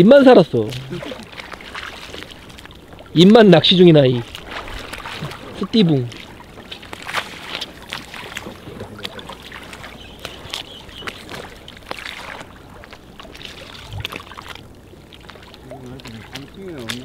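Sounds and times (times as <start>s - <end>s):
waves lapping against boat hull: 0.0s - 17.0s.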